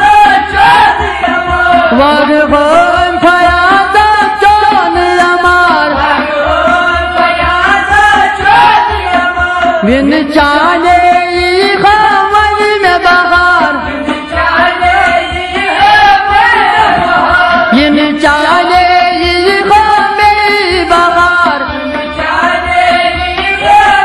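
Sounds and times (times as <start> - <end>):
man singing: 0.0 - 15.8, 17.5 - 24.0
goblet drum rhythm: 0.0 - 24.0
harmonium: 0.0 - 24.0
rabab: 0.0 - 24.0
sarangi: 0.0 - 24.0.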